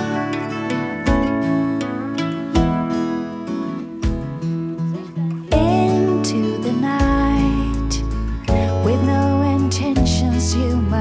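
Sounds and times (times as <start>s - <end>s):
guitar chords strummed: 0.0s - 11.0s.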